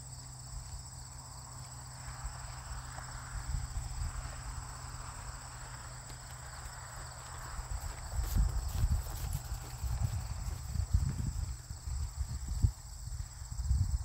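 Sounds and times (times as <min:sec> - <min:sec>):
horse hoofbeats on grass: 0:00.0 - 0:14.0.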